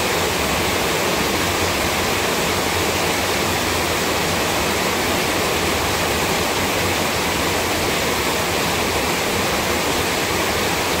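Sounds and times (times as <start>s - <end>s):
loud steady rushing noise: 0.0s - 11.0s.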